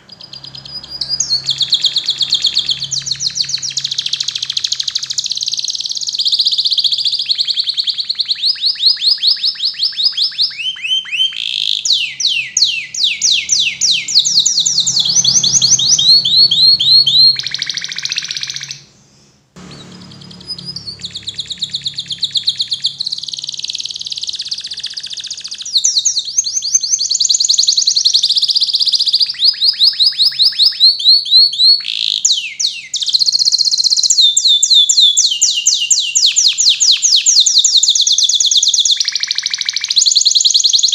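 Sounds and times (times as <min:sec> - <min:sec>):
canary singing fast trills: 0:00.0 - 0:40.9.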